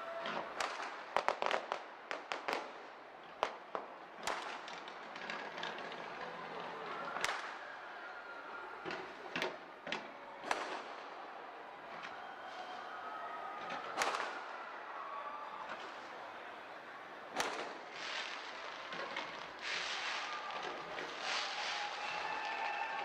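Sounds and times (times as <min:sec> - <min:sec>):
fireworks exploding: 0:00.2 - 0:07.8, 0:08.8 - 0:13.0, 0:13.7 - 0:14.7, 0:17.0 - 0:23.0.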